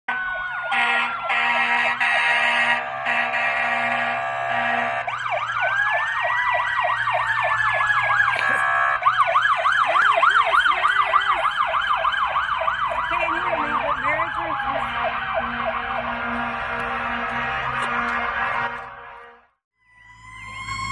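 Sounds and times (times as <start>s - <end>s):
siren wail: 0.1s - 20.9s
siren yelp: 0.1s - 20.9s
steady siren tone: 0.1s - 20.9s.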